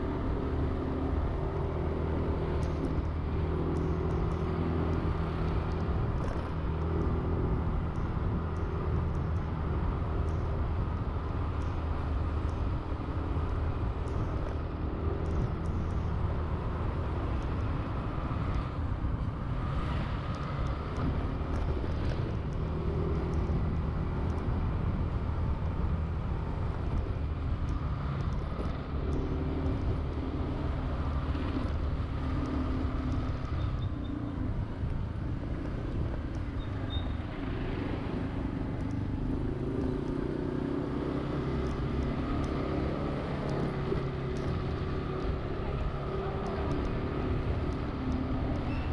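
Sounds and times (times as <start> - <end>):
road noise: 0.0 - 48.9.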